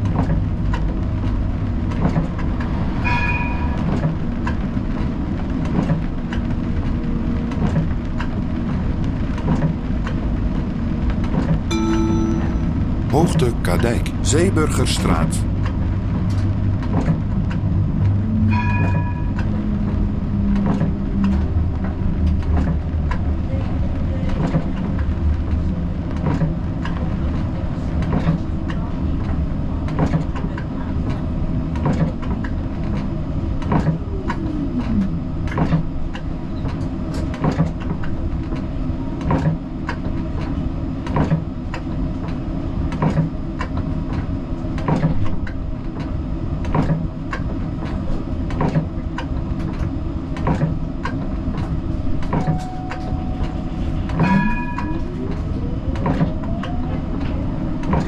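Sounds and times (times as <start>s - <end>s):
tram running gear rumble: 0.0s - 13.1s, 15.5s - 58.0s.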